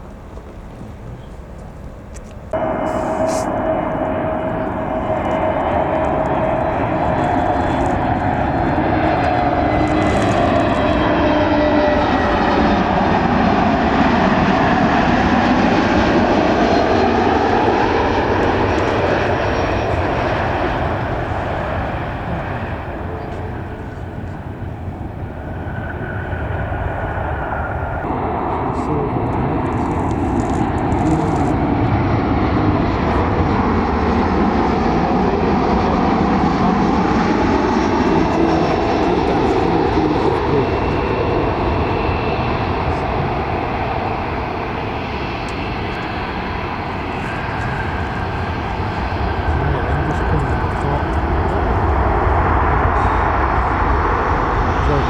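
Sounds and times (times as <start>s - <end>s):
jet engines passing: 0.0s - 55.0s.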